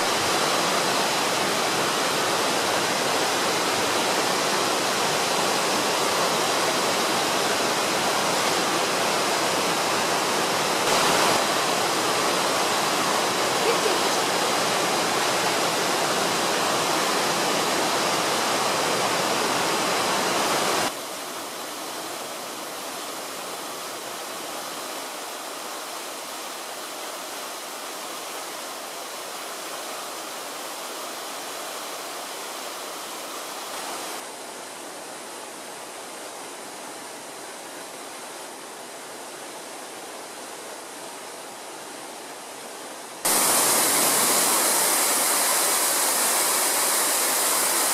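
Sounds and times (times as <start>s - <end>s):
fountain water rushing: 0.0s - 47.9s.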